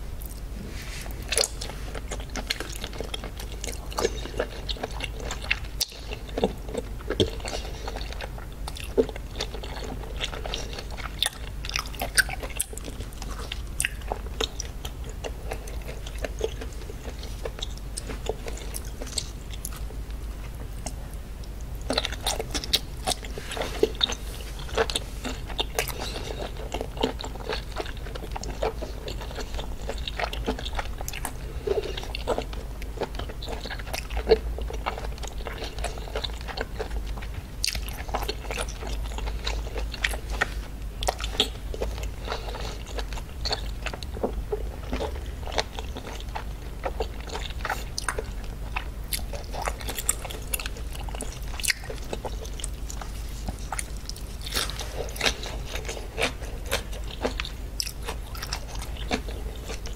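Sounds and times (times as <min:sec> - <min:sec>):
wet chewing and mouth smacks: 0:01.2 - 0:59.9.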